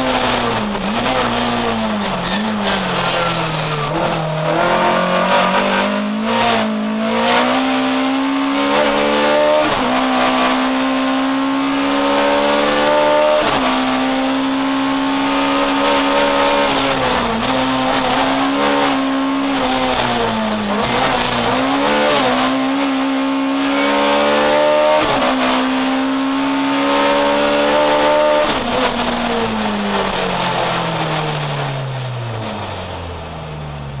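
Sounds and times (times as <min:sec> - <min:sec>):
race car engine at high revs: 0:00.0 - 0:34.0.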